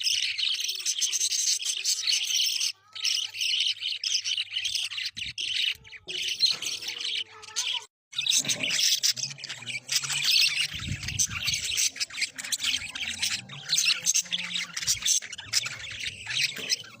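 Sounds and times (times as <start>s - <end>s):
budgerigar chicks squawking: 0.0s - 17.0s.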